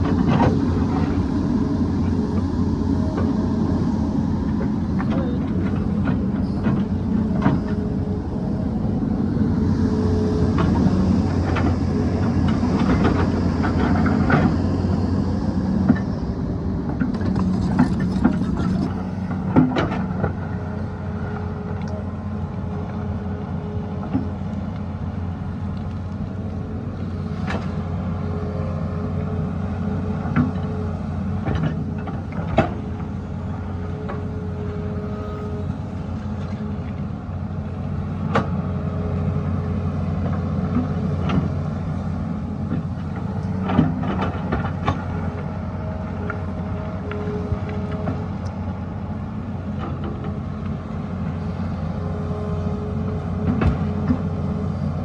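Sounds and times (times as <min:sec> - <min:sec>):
excavator diesel engine under load: 0:00.0 - 0:55.0
hydraulics working: 0:00.0 - 0:55.0.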